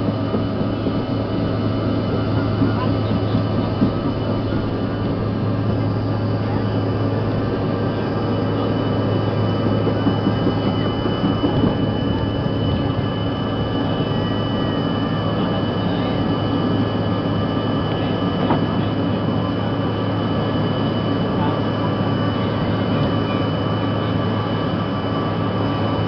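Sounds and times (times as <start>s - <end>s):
high jet whine: 0.0s - 26.0s
jet engine rumble: 0.0s - 26.0s.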